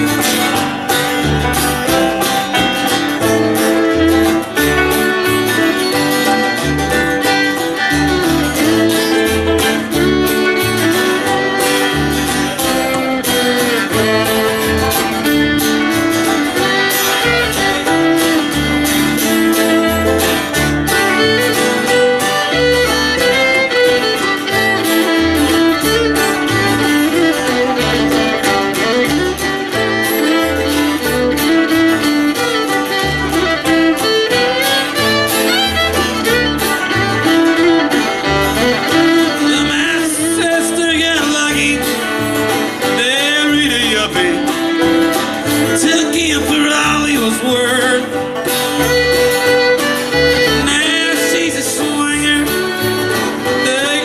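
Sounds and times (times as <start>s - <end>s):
acoustic guitar: 0.0s - 54.0s
banjo picking: 0.0s - 54.0s
upright bass walking notes: 0.0s - 54.0s.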